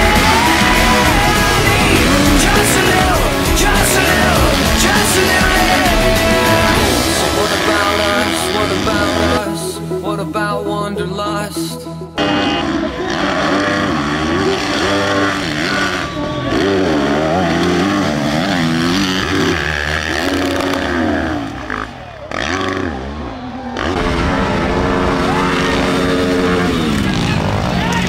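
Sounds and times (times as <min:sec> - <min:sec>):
dirt bike engines revving: 0:00.0 - 0:10.0, 0:12.2 - 0:28.0.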